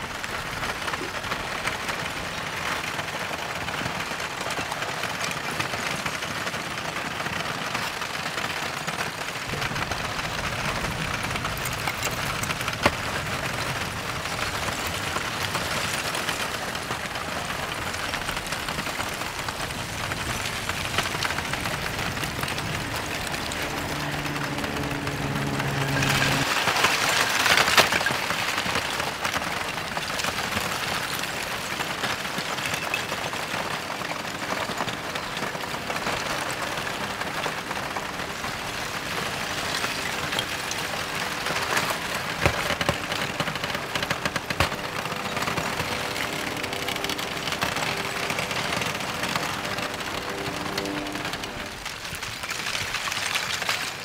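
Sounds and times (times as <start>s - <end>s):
lava crust crackling and clinking: 0.0s - 54.0s
rush of sliding rock: 0.0s - 54.0s.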